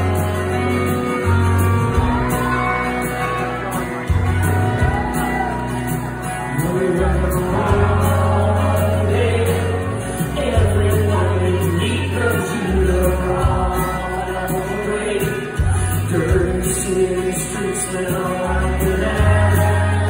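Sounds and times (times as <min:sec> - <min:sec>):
acoustic guitar: 0:00.0 - 0:20.0
deep bass notes: 0:00.0 - 0:20.0
voices over music: 0:00.0 - 0:20.0.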